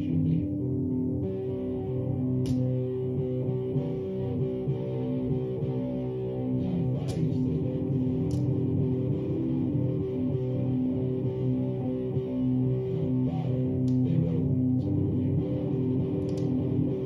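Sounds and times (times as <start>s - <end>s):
guitar music over loudspeaker: 0.0s - 17.0s.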